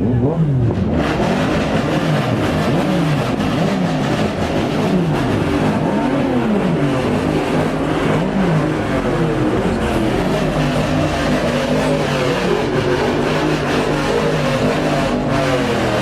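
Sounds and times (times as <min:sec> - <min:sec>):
car engine revving hard: 0:00.0 - 0:16.0
other engine noise: 0:00.0 - 0:16.0.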